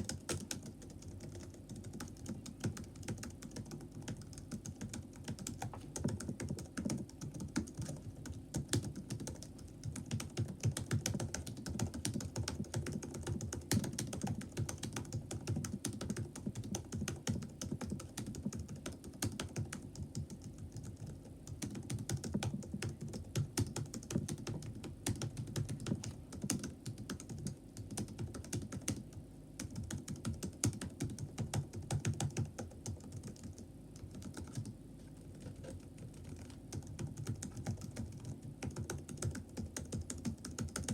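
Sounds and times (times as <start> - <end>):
typing on laptop keyboard: 0.0 - 40.9.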